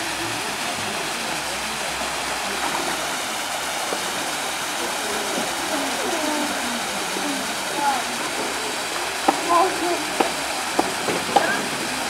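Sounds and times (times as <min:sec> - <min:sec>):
waterfall splashing into pool: 0:00.0 - 0:12.0.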